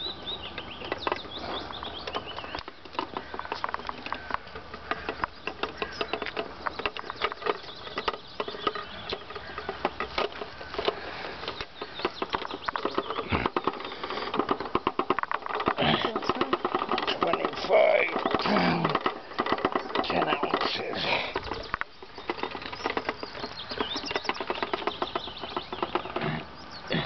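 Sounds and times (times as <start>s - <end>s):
rustling and tapping of fish handling: 0.0s - 27.0s.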